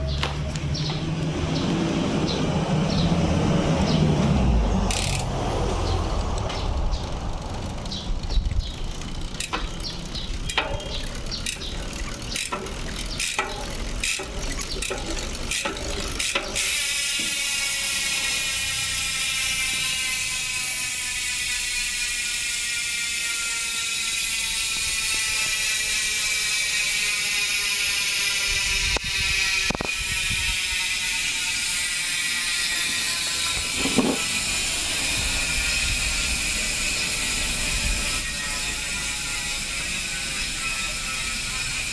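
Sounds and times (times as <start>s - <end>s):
freehub ratchet buzzing: 0.0s - 41.9s
bike hub clicks: 3.7s - 41.9s.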